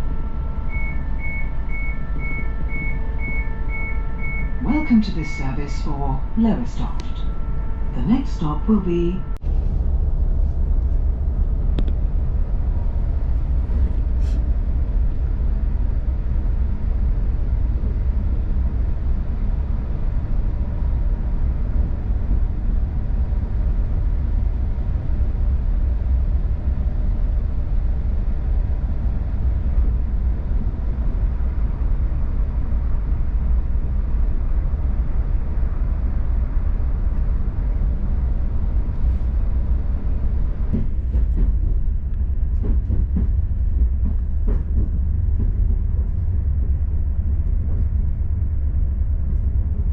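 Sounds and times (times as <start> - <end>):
faint engine hum: 0.0 - 49.9
train wheels rumbling on track: 0.0 - 49.9.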